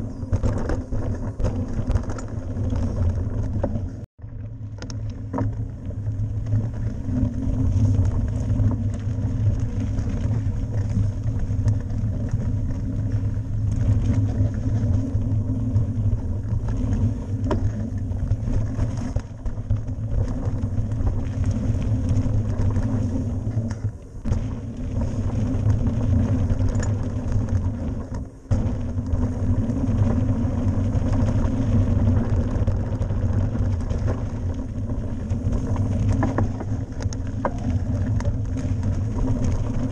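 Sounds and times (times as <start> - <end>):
bike tyres rumbling on dirt: 0.0 - 39.9
wind buffeting microphone: 0.0 - 39.9.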